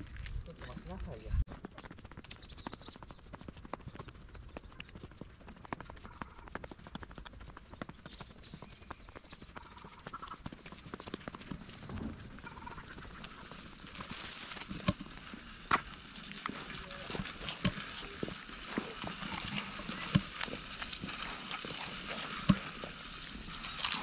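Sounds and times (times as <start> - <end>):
deer hooves clicking on hard ground: 0.0 - 24.0.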